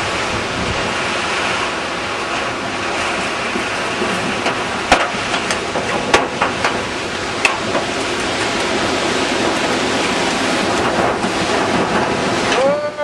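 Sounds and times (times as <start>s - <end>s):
heavy rain and wind: 0.0s - 13.0s.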